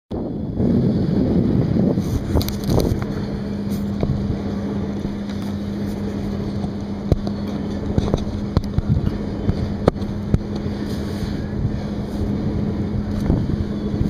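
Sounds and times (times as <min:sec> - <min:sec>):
low motor hum: 0:00.1 - 0:14.0
wind buffeting the microphone: 0:00.1 - 0:14.0.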